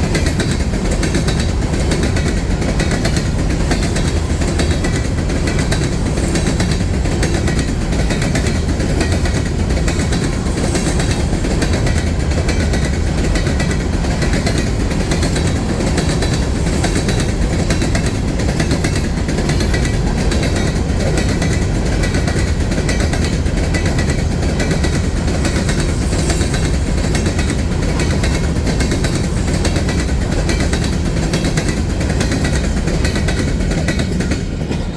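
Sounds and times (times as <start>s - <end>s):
freight train cars rattling past: 0.0s - 34.9s.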